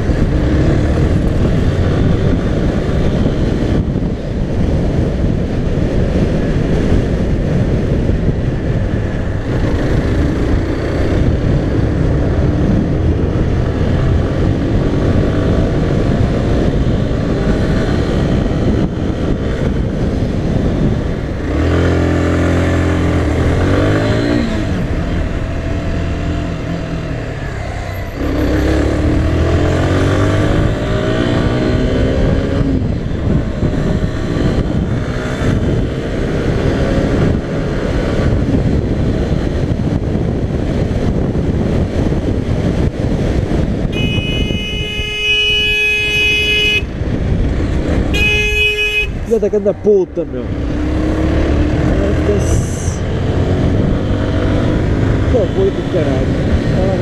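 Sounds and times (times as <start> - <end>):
motorcycle engine accelerating: 0.0 - 57.0
wind on microphone: 0.0 - 57.0.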